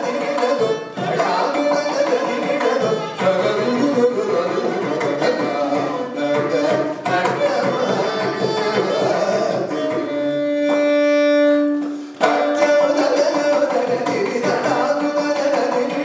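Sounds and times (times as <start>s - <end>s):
man singing: 0.0s - 11.2s, 12.2s - 16.0s
drum accompaniment: 0.0s - 16.0s.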